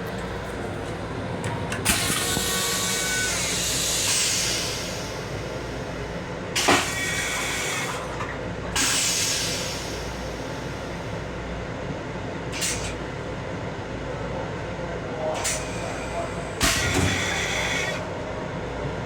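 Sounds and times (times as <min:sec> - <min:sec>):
railcar rumbling: 0:00.0 - 0:19.0.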